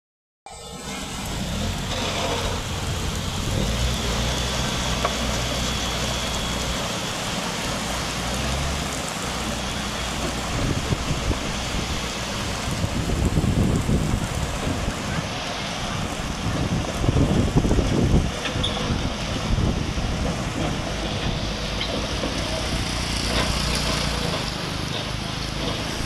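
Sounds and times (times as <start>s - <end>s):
excavator diesel engine rumbling: 0.5s - 26.0s.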